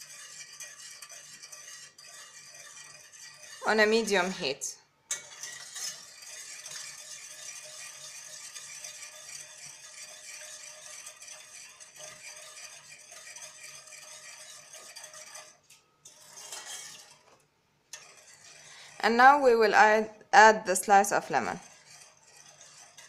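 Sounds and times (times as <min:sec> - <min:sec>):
metal spoon scraping saucepan: 0:00.0 - 0:23.0.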